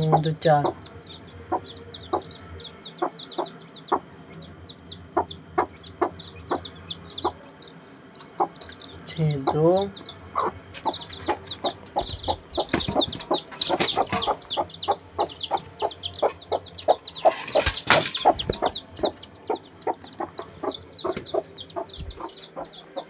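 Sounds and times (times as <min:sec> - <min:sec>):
chickens clucking: 0:00.0 - 0:23.0
chicks peeping: 0:00.0 - 0:23.0.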